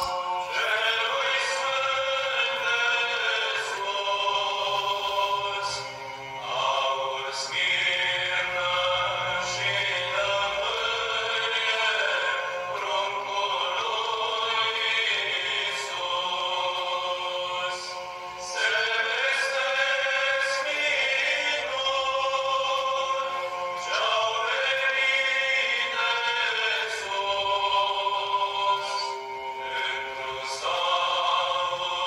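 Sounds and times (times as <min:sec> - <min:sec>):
music with singing voices: 0:00.0 - 0:32.0.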